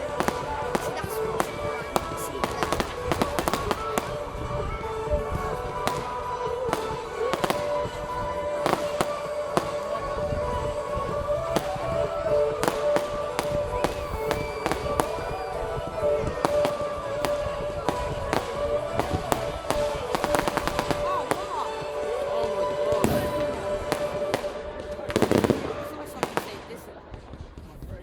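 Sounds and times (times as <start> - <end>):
fireworks exploding: 0.0 - 28.0.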